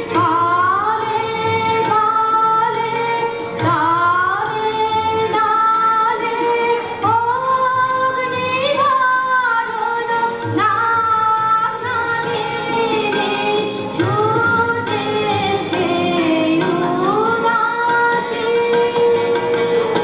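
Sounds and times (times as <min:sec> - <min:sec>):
instrumental accompaniment: 0:00.0 - 0:20.0
woman singing: 0:00.0 - 0:20.0.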